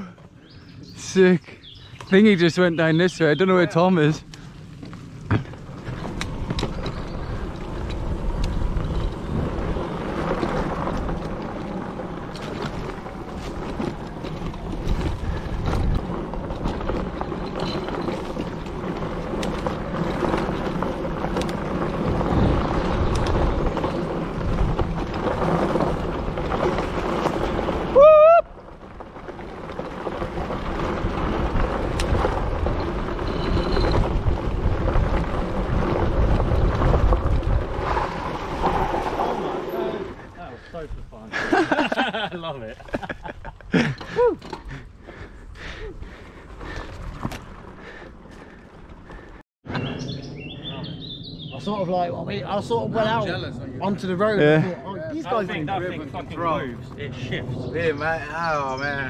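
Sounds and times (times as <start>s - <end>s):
tyres rumbling over dirt trail: 0.0s - 59.0s
wind buffeting the microphone: 4.1s - 28.0s, 28.7s - 59.0s.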